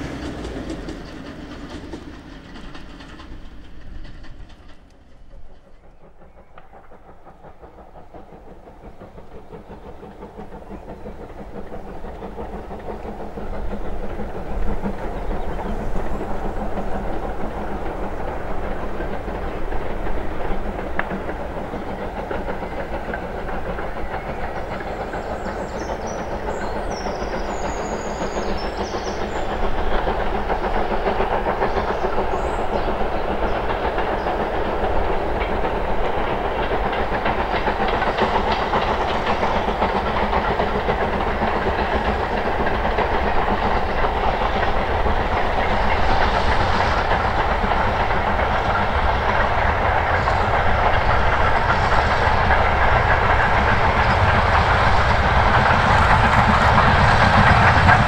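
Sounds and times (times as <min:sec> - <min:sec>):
steam locomotive exhaust and wheels: 0:00.0 - 0:58.0.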